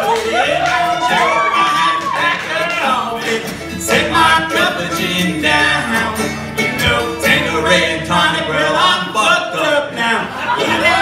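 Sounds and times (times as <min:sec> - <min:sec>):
acoustic guitar strumming: 0:00.0 - 0:11.0
banjo ukulele strumming: 0:00.0 - 0:11.0
men singing: 0:00.0 - 0:11.0.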